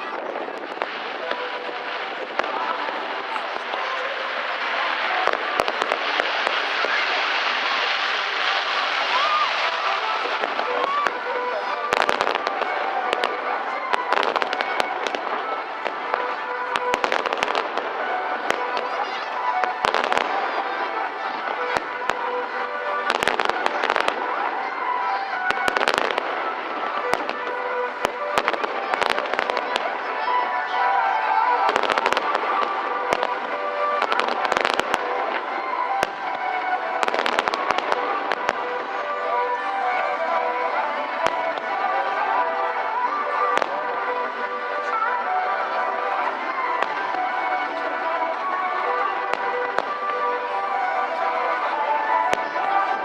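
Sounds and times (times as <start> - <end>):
fireworks cracking and popping: 0.0 - 53.0
music playing: 0.0 - 53.0.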